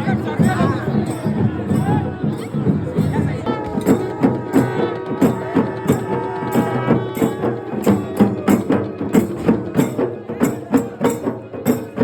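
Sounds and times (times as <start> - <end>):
rhythmic drum beats: 0.0 - 12.0.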